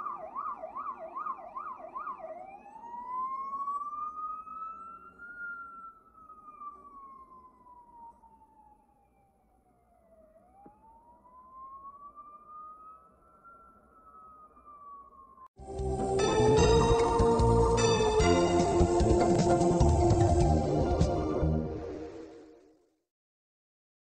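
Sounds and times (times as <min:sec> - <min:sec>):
police siren: 0:00.0 - 0:22.7.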